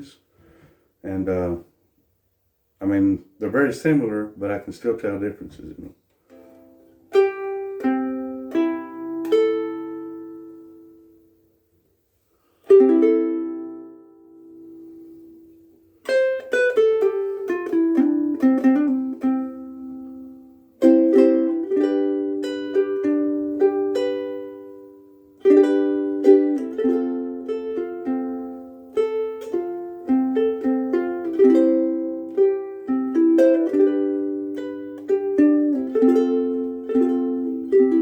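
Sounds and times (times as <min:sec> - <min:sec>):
ukulele chords and picked notes: 0:06.2 - 0:11.5, 0:12.4 - 0:38.0.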